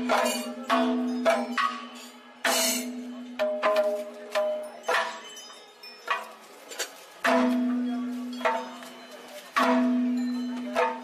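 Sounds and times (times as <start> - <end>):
sharp percussion taps: 0.0 - 5.4, 6.0 - 6.4, 7.2 - 9.0, 9.6 - 11.0.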